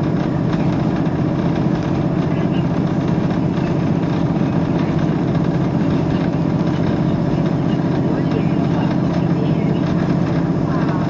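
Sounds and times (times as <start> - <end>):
diesel train engine rumble: 0.0 - 11.0.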